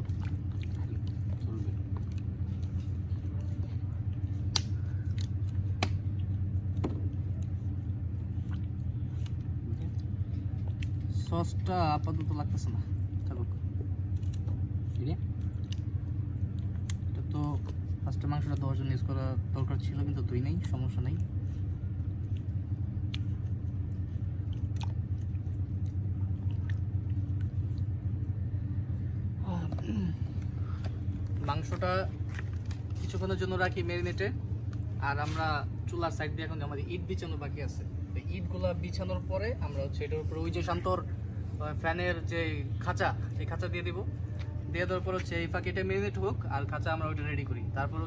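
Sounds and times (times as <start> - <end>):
faint high whine: 0.0 - 48.0
low motor hum: 0.0 - 48.0.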